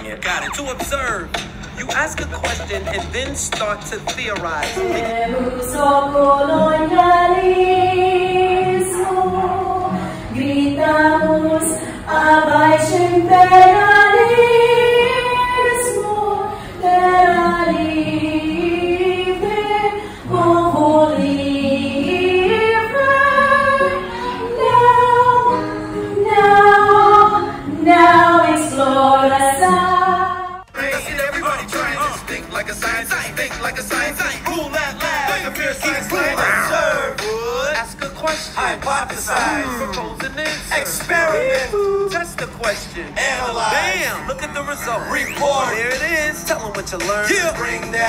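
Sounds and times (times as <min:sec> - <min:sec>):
song with singing voice: 0:00.0 - 0:48.0.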